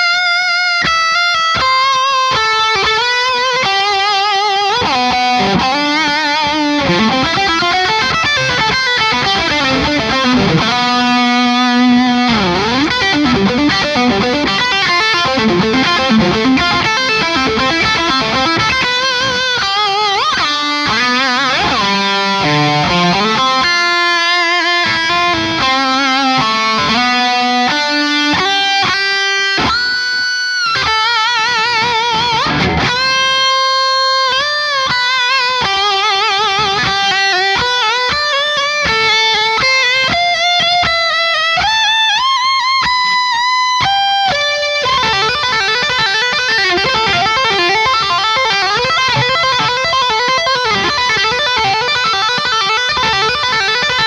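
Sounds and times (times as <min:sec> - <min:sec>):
distorted electric guitar lead: 0:00.0 - 0:54.0.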